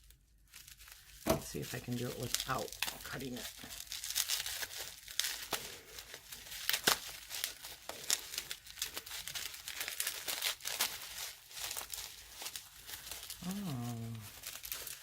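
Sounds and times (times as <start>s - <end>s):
wrapping crinkling and tearing: 0.0s - 15.0s.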